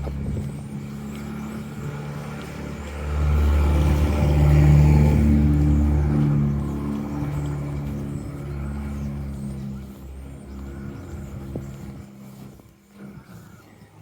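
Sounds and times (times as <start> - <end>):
vehicle engine running: 0.0 - 13.3.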